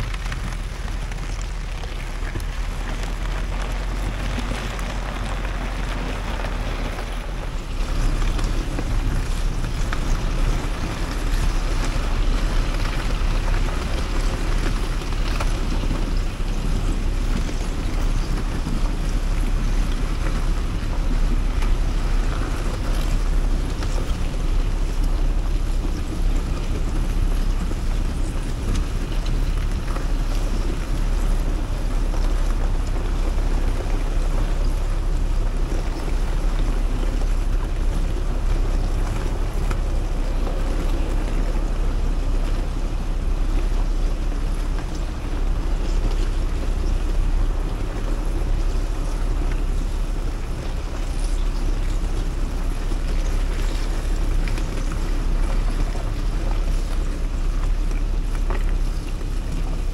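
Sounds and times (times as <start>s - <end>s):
diesel truck engine rumbling: 0.0s - 59.9s
wind noise on microphone: 0.0s - 59.9s.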